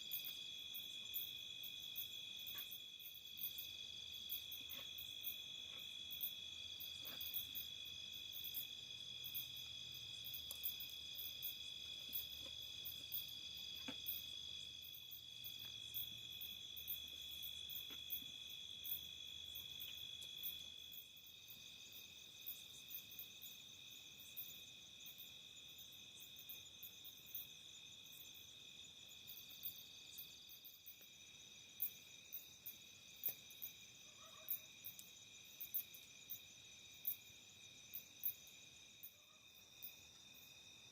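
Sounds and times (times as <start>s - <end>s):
insects trilling: 0.1s - 40.9s.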